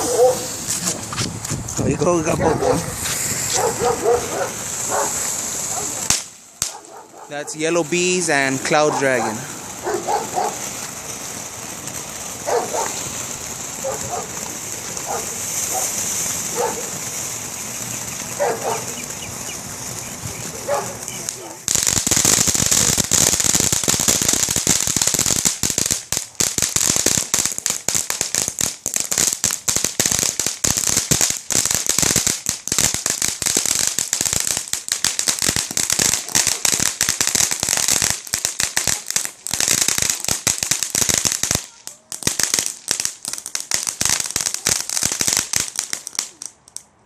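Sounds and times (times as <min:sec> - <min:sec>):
fireworks hissing: 0:00.0 - 0:46.7
fireworks crackling: 0:00.0 - 0:47.0.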